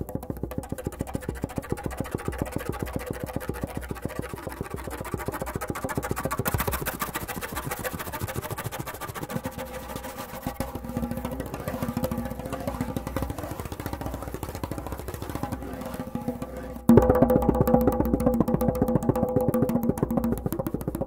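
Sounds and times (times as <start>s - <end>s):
hand drum fast roll: 0.0s - 21.0s.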